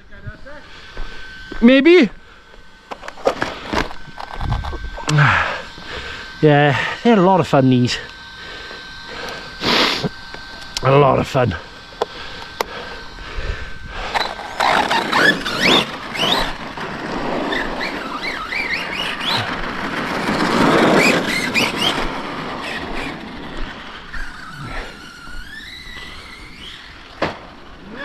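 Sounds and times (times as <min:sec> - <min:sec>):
rc truck electric motors whining: 0:00.1 - 0:28.0
rough running noise: 0:00.2 - 0:28.0.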